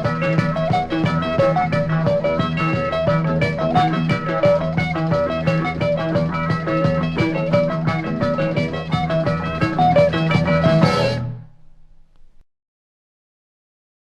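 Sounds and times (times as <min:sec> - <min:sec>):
band playing instrumental melody: 0:00.0 - 0:11.5.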